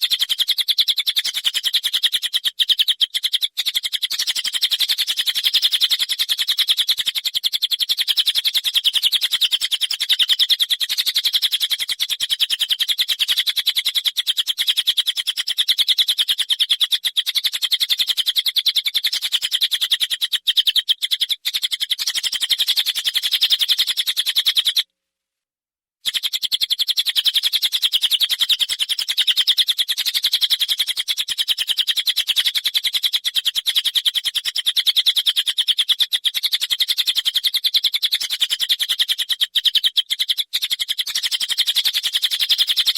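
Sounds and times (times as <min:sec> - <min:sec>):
songbird chattering rattle: 0:00.0 - 0:24.9, 0:26.0 - 0:42.9.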